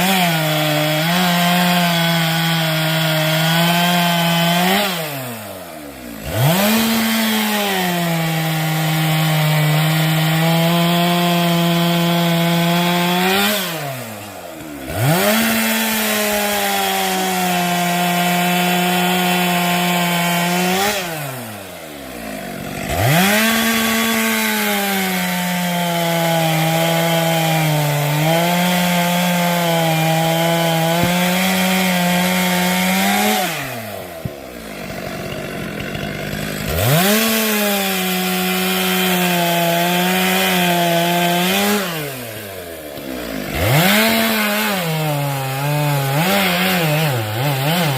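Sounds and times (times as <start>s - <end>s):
chainsaw cutting through log: 0.0s - 47.9s.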